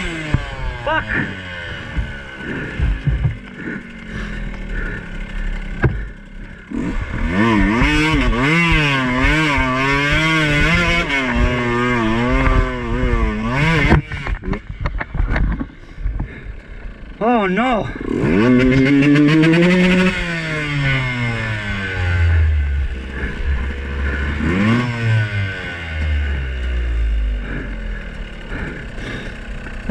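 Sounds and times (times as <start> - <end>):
two-stroke dirt bike engine revving: 0.0 - 29.9.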